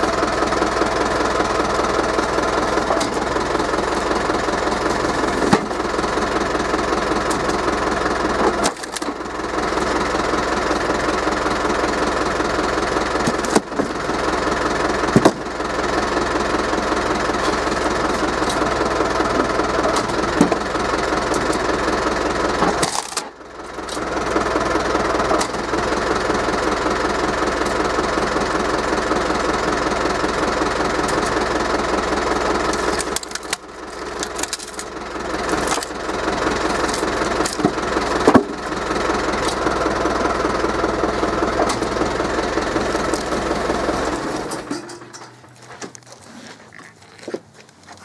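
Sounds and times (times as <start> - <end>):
forklift engine running: 0.0 - 48.0.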